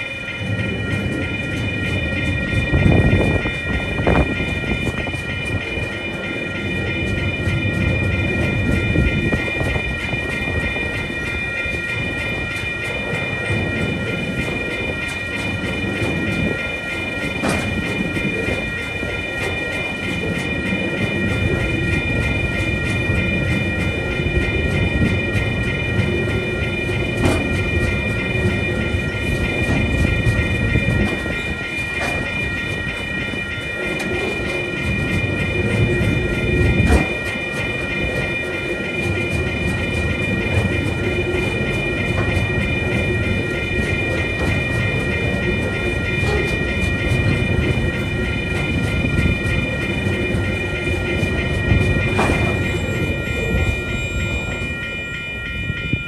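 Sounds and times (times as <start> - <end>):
crossing warning bell ringing: 0.0 - 56.0
train wheels clattering over joints: 0.0 - 56.0.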